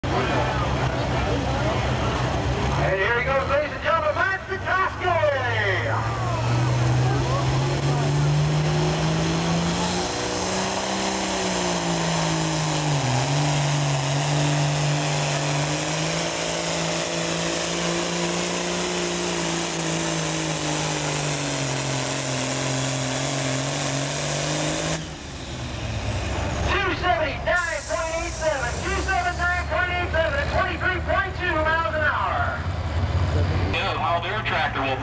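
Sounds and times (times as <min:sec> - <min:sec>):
tractor diesel engine at high revs: 0:00.0 - 0:35.0.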